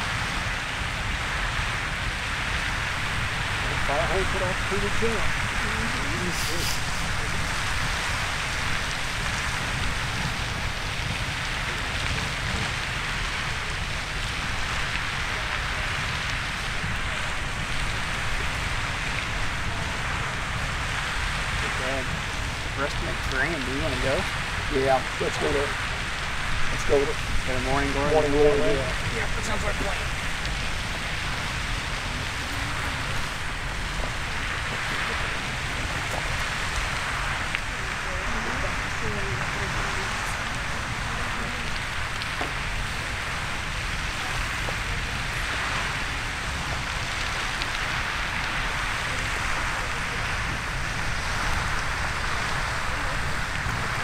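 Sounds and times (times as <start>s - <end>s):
geyser water jet hissing: 0.0s - 54.0s
low rumble: 0.0s - 54.0s.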